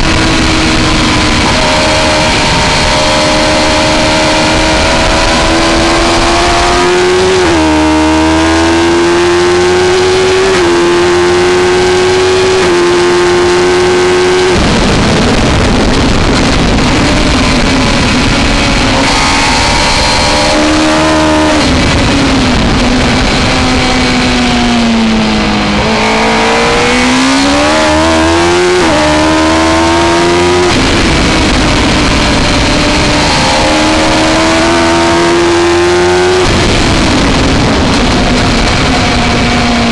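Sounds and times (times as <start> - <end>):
motorcycle engine revving: 0.0 - 39.9
wind rush over microphone: 0.0 - 39.9.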